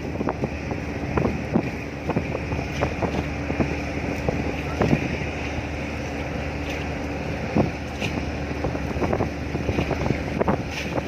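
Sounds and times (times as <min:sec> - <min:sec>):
ship engine drone: 0:00.0 - 0:11.0
wind buffeting microphone: 0:00.0 - 0:11.0.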